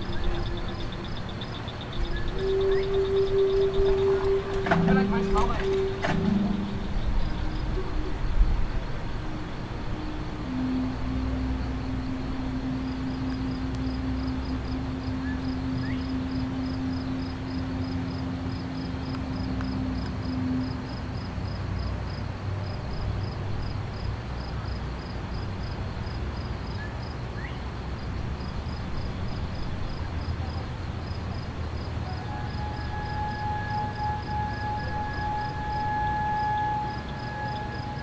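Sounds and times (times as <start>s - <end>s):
cricket chirping: 0.0s - 38.0s
low steady hum: 0.0s - 38.0s.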